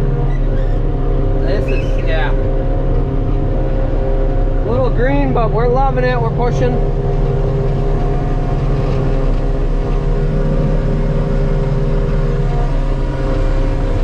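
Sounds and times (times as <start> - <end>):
forage harvester engine drone: 0.0 - 14.0.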